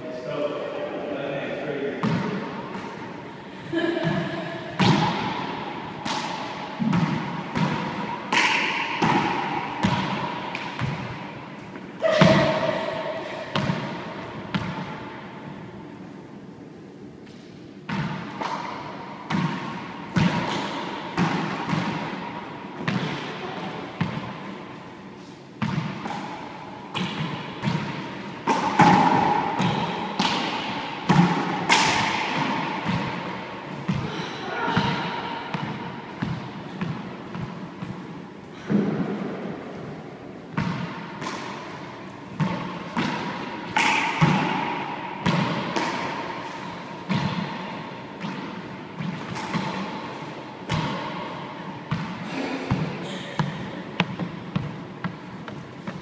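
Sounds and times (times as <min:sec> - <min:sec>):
handball smacking walls and floor: 0:04.0 - 0:15.2, 0:17.9 - 0:24.4, 0:25.6 - 0:38.0, 0:40.5 - 0:56.0.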